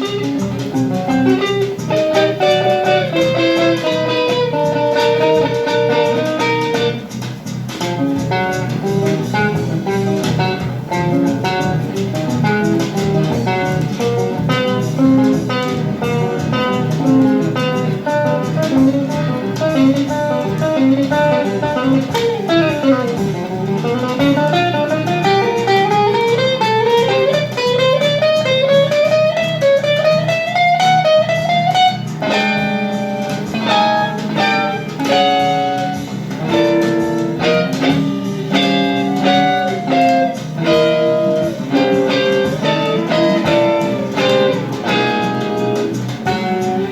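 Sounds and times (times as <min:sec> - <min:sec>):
plucked guitar fast runs: 0:00.0 - 0:46.9
rock music: 0:00.0 - 0:46.9
steady bass line: 0:00.0 - 0:46.9.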